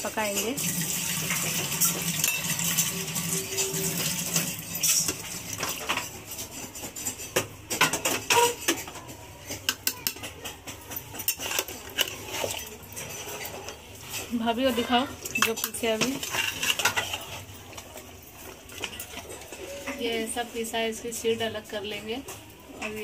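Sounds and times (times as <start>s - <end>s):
dishes and utensils clattering: 0.0s - 23.0s.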